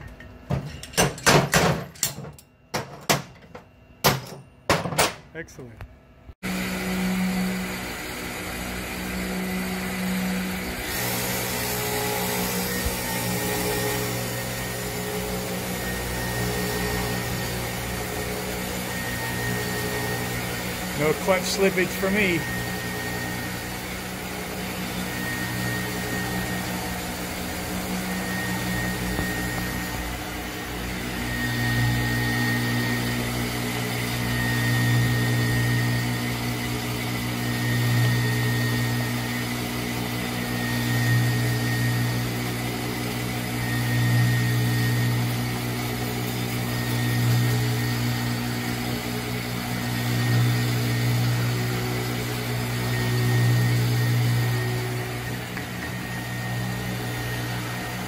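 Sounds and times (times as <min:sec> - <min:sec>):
grinder humming: 0:06.4 - 0:58.0.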